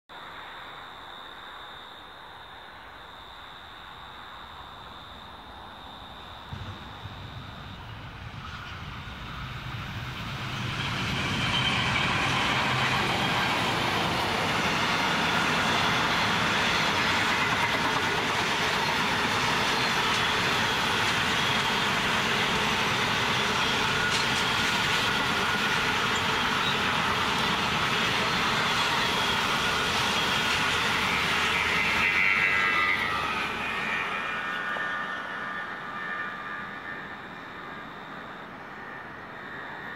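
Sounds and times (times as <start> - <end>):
high-pitched whine: 0.2 - 39.9
diesel locomotive engines: 3.4 - 39.9
train wheels rushing on rails: 5.6 - 39.9.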